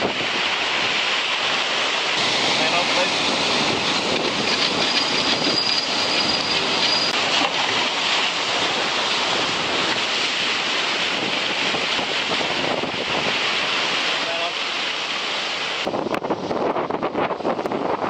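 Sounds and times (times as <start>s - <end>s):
wind buffeting microphone: 0.0s - 1.0s, 2.2s - 14.0s, 15.8s - 18.0s
rushing wind and water spray: 0.0s - 18.0s.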